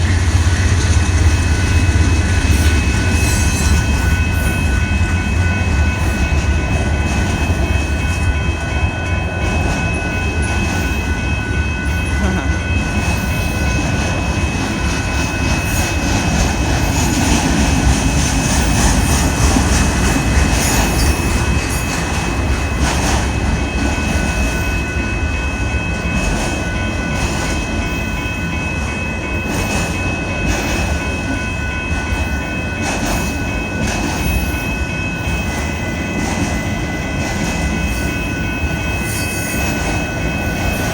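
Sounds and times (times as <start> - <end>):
freight train wheels rumbling: 0.0 - 40.9.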